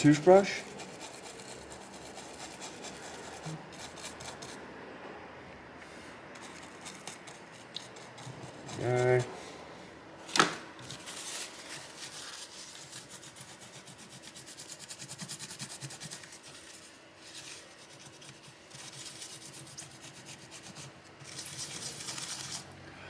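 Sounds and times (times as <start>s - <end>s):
toothbrush scrubbing: 0.5s - 4.6s, 6.4s - 9.3s, 11.0s - 22.6s.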